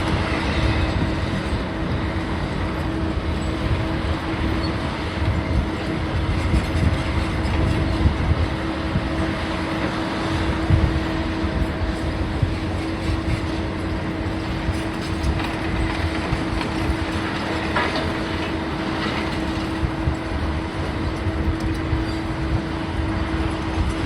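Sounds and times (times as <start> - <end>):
heavy machinery rumbling: 0.0 - 24.0.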